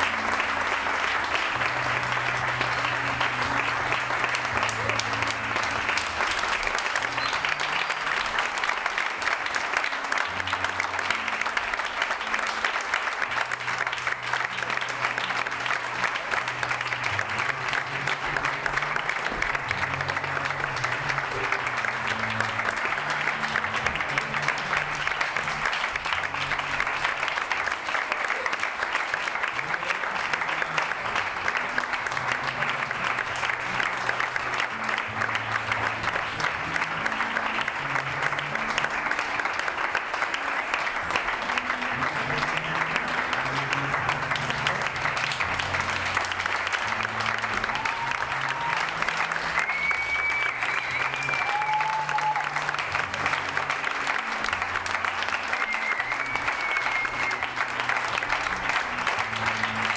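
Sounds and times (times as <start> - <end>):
group of people clapping: 0.0 - 59.9.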